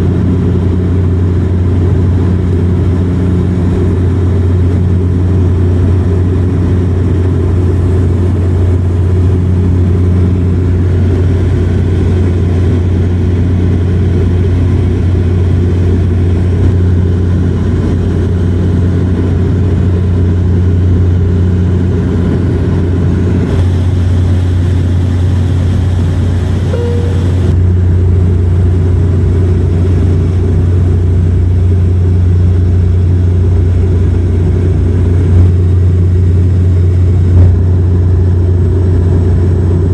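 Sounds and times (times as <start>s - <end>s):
airliner engine drone in cabin: 0.0s - 39.9s.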